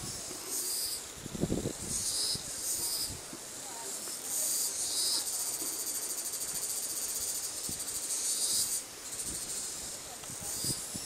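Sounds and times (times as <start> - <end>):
insects buzzing shrilly: 0.0 - 11.0.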